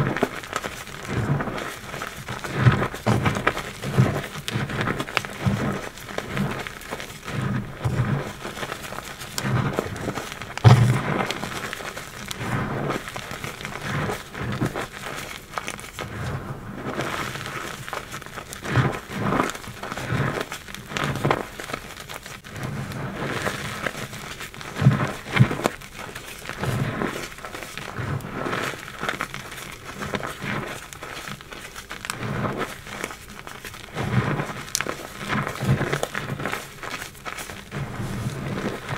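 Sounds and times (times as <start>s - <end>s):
hands crushing chalk: 0.0s - 38.9s
soft dull thuds in powder: 0.0s - 38.9s.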